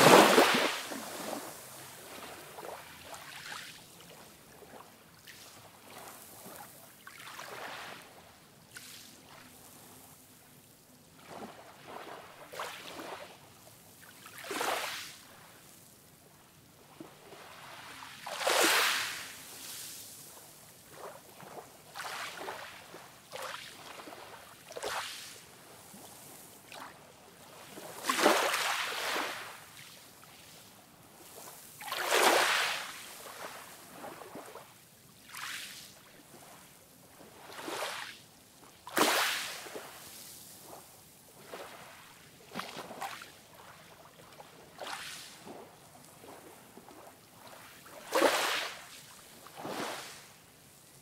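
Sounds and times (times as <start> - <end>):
ocean waves breaking on sand: 0.0 - 51.0.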